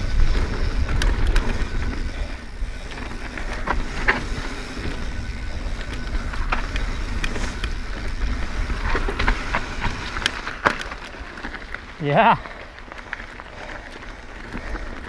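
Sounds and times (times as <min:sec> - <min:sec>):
bike clicks and rattles: 0:00.0 - 0:15.0
tyres rolling on dirt: 0:00.0 - 0:15.0.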